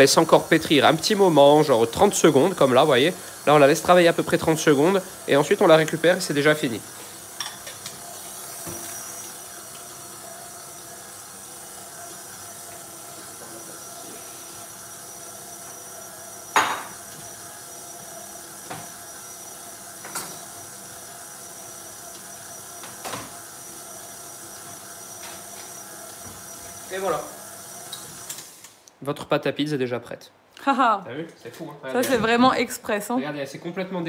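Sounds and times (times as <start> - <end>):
stand mixer running: 0.0 - 28.8.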